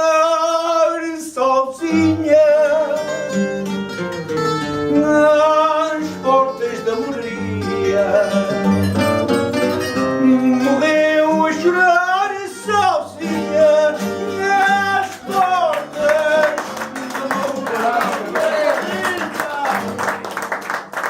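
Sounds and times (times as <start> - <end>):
classical guitar accompaniment: 0.0 - 21.0
guitar melody: 1.9 - 21.0.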